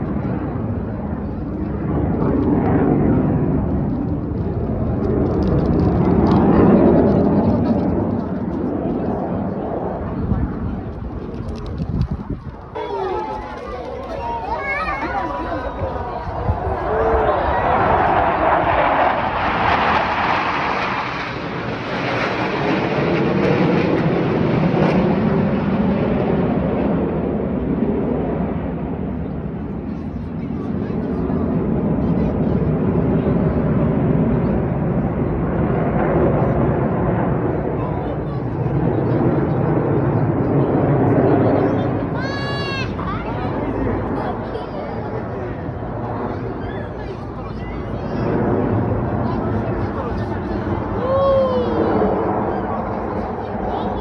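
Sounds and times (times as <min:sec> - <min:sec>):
jets flying over: 0:00.0 - 0:54.0.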